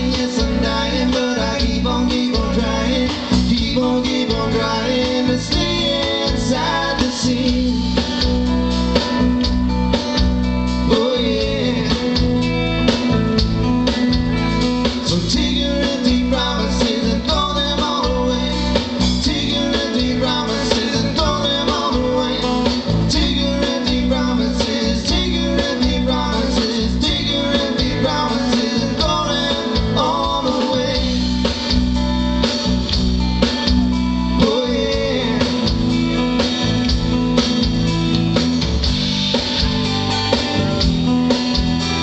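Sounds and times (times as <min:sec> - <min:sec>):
bass guitar: 0:00.0 - 0:42.0
electric guitar: 0:00.0 - 0:42.0
steady drum beat: 0:00.0 - 0:42.0.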